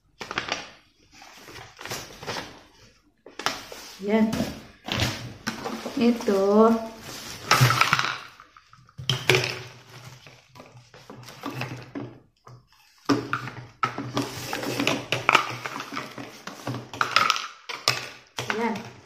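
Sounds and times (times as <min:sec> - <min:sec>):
plastic vacuum parts clicking and rustling: 0:00.2 - 0:19.0.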